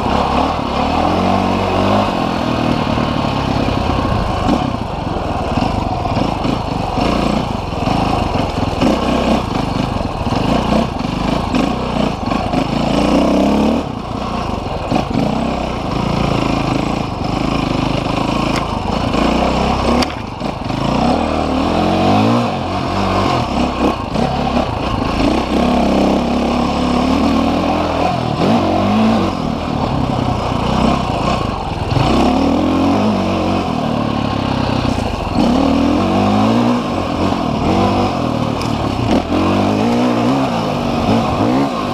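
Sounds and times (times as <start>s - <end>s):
off-road motorcycle engine revving: 0.0s - 41.9s.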